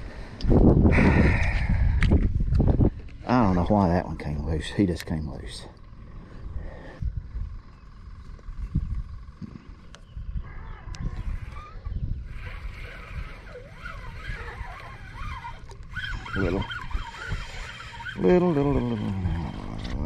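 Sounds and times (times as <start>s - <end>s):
wind buffeting microphone: 0.0s - 20.0s
birds chattering: 2.9s - 20.0s.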